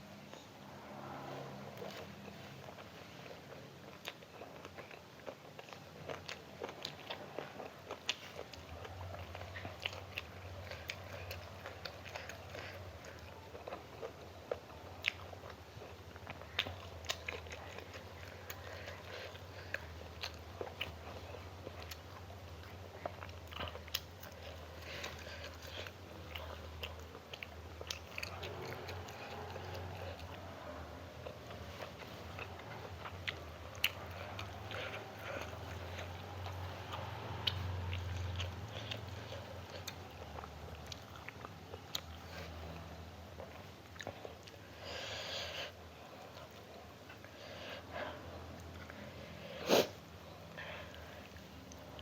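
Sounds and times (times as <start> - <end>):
low steady hum: 0.0 - 52.0
chewing and biting food: 1.7 - 45.3.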